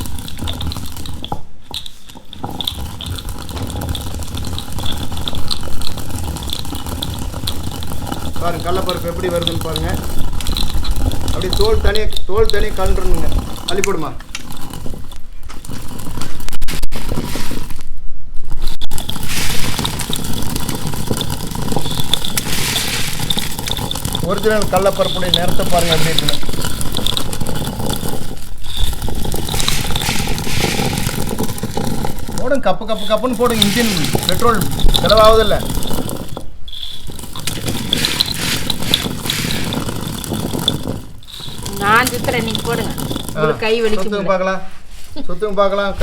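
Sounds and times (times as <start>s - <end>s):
rattle of grains: 0.0s - 45.9s
stone grinder rumbling and crunching: 0.0s - 46.0s.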